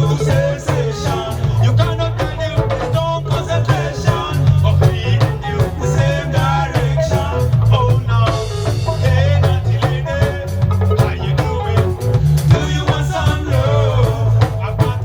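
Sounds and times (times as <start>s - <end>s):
man singing: 0.0s - 15.0s
reggae band playing: 0.0s - 15.0s.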